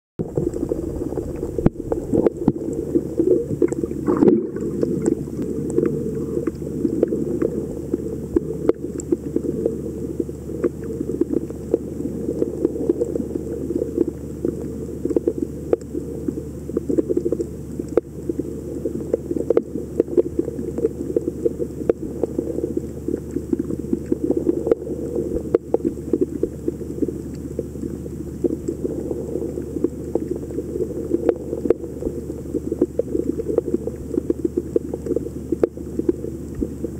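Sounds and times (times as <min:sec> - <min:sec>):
muffled underwater rumble: 0:00.2 - 0:36.9
sharp underwater clicks and crackles: 0:00.2 - 0:36.9.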